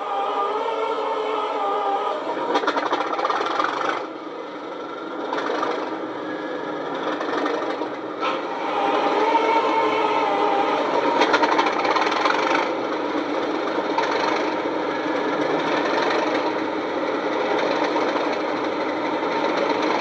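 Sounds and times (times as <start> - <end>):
diesel locomotive engine running: 0.0 - 20.0.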